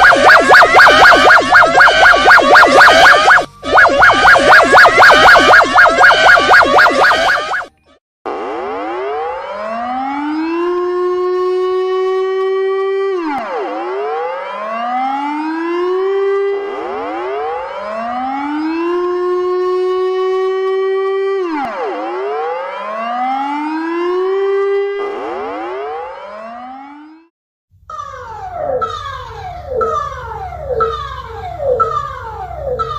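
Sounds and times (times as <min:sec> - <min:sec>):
emergency siren wailing: 0:00.0 - 0:07.7, 0:08.3 - 0:27.3, 0:28.5 - 0:32.9.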